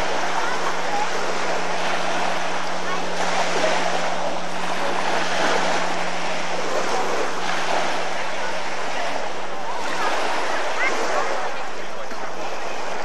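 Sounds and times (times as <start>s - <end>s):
low hum: 0.0s - 13.0s
small waves washing against shore: 0.0s - 13.0s.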